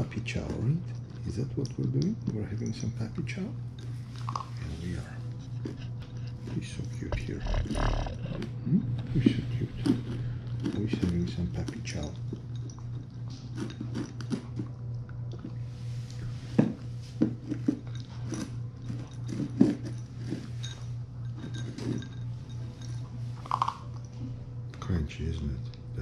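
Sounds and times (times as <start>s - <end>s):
puppy crunching dry kibble: 0.0s - 25.9s.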